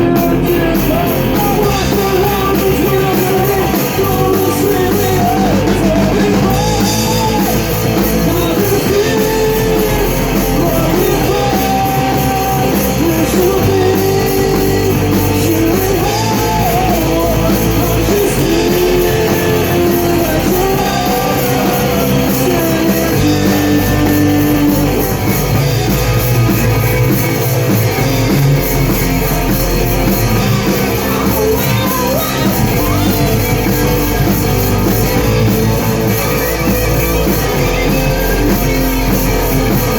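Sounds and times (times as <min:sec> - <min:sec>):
bass line: 0:00.0 - 0:39.9
drums: 0:00.0 - 0:39.9
electric guitar: 0:00.0 - 0:39.9
person singing: 0:00.0 - 0:39.9.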